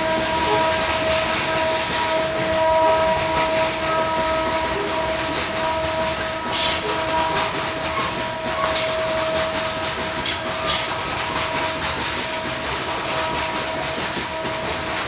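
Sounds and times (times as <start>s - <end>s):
freight train rumble: 0.0s - 15.0s
train wheels clacking over rail joints: 0.0s - 15.0s.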